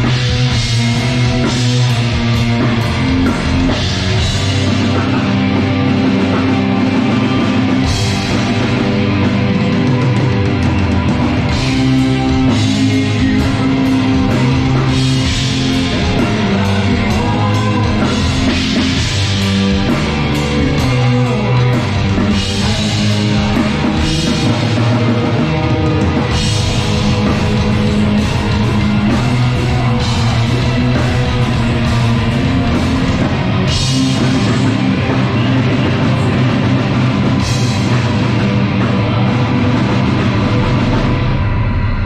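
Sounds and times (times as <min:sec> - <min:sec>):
metal band playing live: 0:00.0 - 0:42.0.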